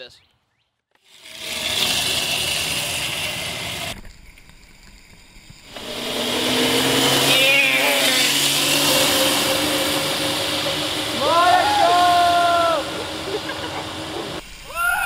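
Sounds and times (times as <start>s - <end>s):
electric dirt bike motor whining: 1.0s - 14.4s.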